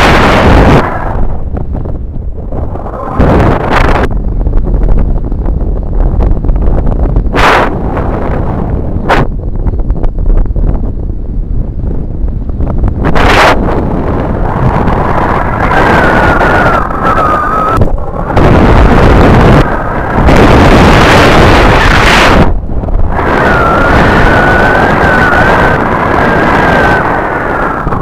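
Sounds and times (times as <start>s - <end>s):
strong wind on microphone: 0.0s - 28.0s.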